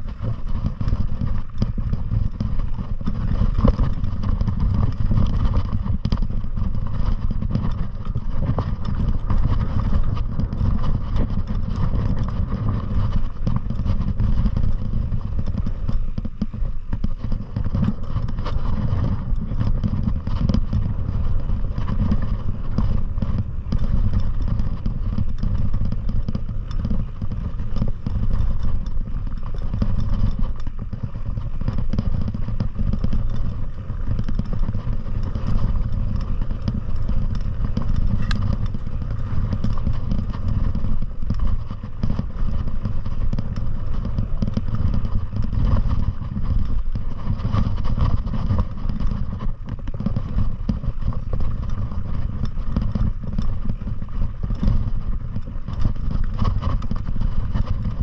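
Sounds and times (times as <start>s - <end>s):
clatter of knocks and rattles: 0.0s - 58.0s
wind buffeting microphone: 0.0s - 58.0s.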